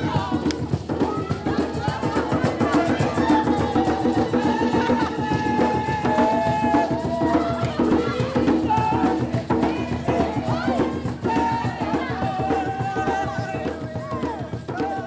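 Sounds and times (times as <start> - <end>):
drum and percussion beat: 0.0 - 15.0.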